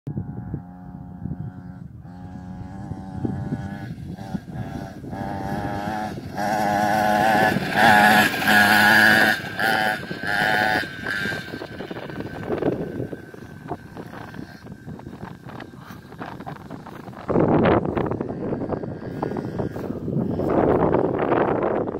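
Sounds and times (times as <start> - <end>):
mini bike motor revving: 0.1 - 21.9.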